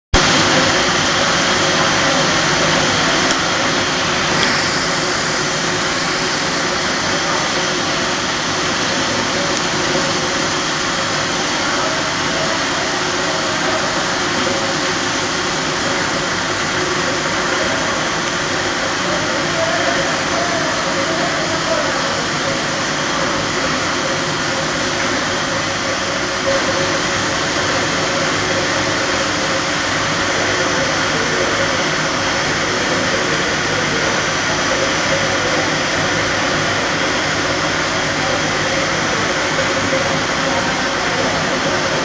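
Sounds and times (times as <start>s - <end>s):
extrusion machine running: 0.1s - 42.0s.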